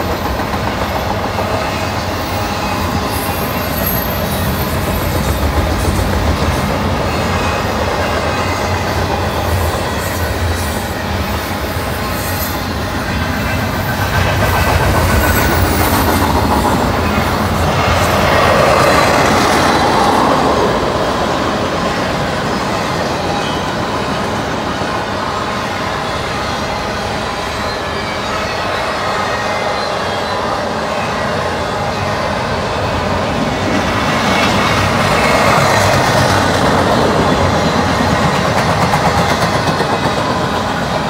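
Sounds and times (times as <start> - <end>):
train wheels running on rails: 0.0 - 41.0.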